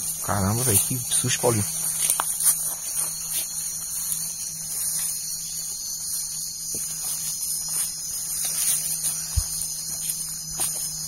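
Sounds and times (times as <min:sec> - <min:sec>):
crickets and insects trilling: 0:00.0 - 0:11.0.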